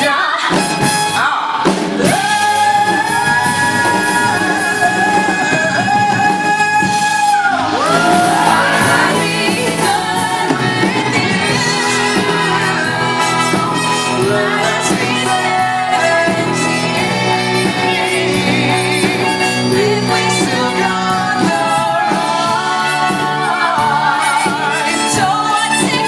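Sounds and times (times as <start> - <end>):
live band playing: 0.0 - 26.0
woman belting a rock song: 0.0 - 26.0.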